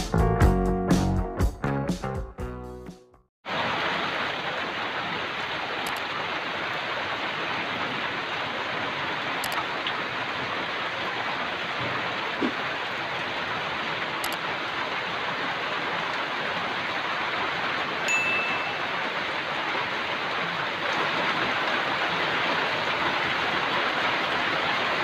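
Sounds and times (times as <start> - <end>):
rain pouring on leaves: 3.5 - 25.0.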